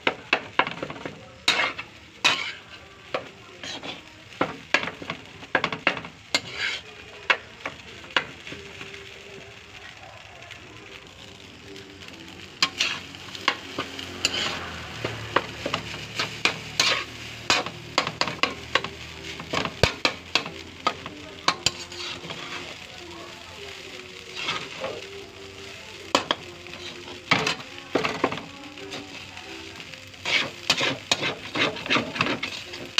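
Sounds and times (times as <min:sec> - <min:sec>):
food sizzling: 0:00.0 - 0:32.9
metal spatula scraping wok: 0:00.3 - 0:09.2, 0:11.8 - 0:32.9.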